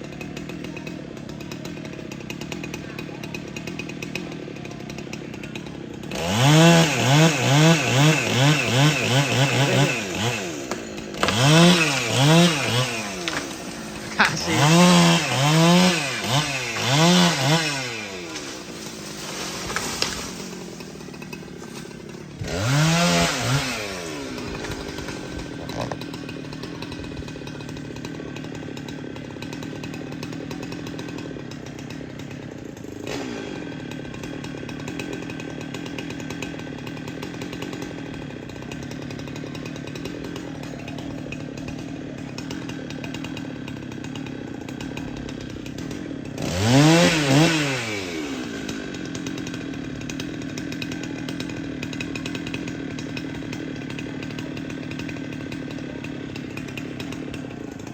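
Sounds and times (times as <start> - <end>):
chainsaw idling and revving: 0.0 - 57.9.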